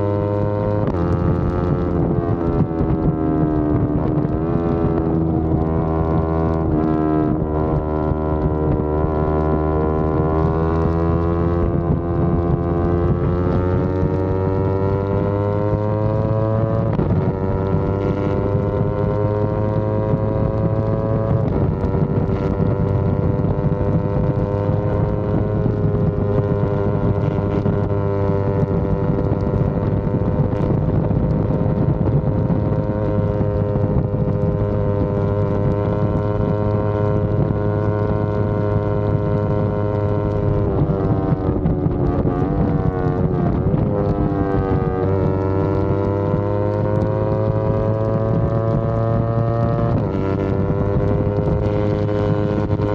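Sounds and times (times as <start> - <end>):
motorcycle engine accelerating: 0.0 - 52.9
wind noise on microphone: 0.0 - 52.9.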